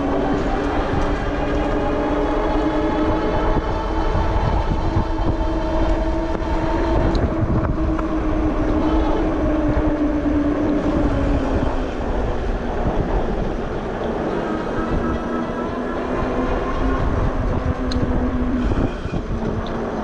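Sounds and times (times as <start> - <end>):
electric bike motor whining: 0.0 - 20.0
wind on microphone: 0.0 - 20.0.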